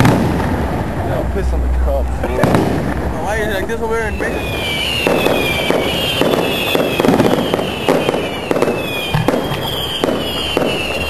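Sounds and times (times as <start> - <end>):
fireworks popping: 0.0 - 11.0.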